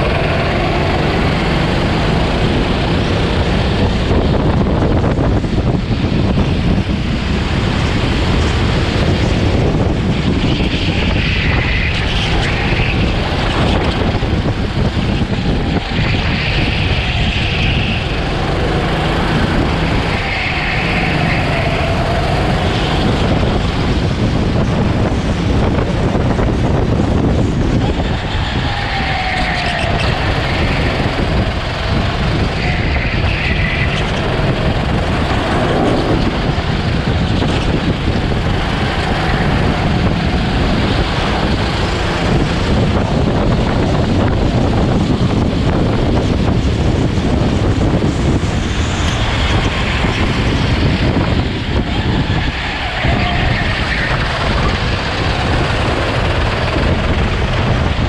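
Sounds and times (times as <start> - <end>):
go-kart engine revving: 0.0 - 58.0
wind rumble on microphone: 0.0 - 58.0.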